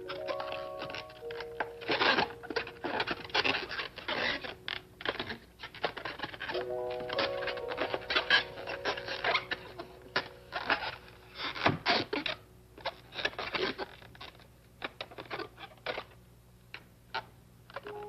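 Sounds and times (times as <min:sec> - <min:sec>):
rubber balloon squeaking: 0:00.0 - 0:16.1.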